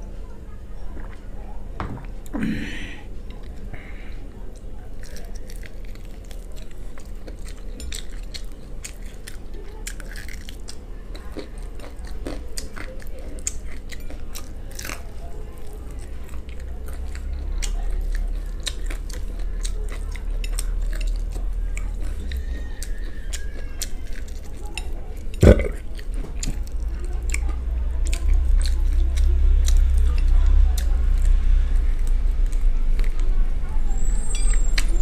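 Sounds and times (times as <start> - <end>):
chewing: 3.1 - 35.0.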